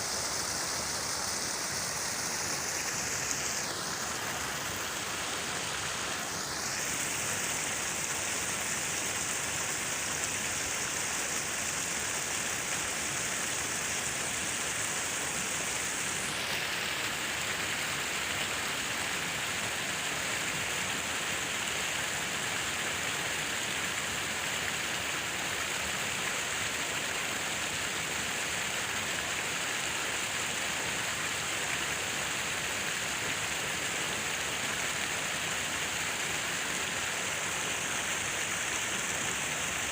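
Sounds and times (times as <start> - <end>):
falling water hissing: 0.0 - 39.9.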